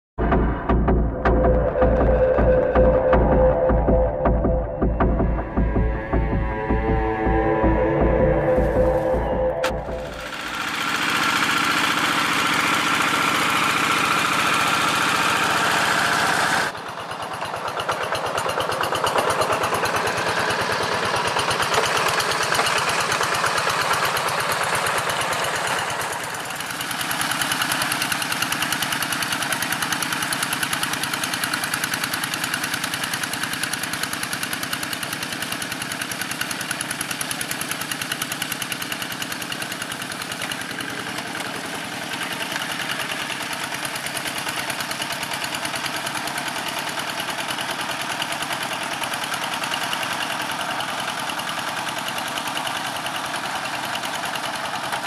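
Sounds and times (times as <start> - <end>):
hand tractor diesel engine running: 0.2 - 55.0.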